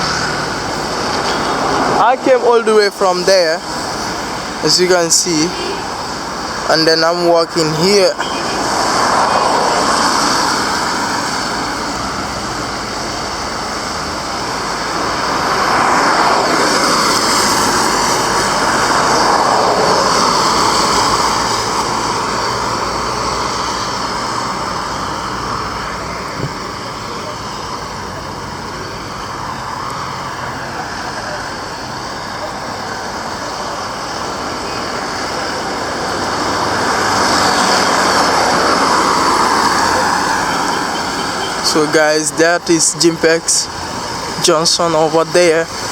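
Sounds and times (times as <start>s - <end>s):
vehicles passing: 0.0s - 45.9s.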